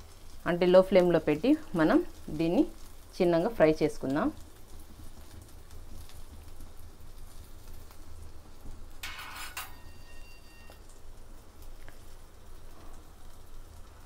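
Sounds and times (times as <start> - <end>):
butter sizzling in a pan: 0.0 - 14.0
crackles and pops: 0.0 - 14.0.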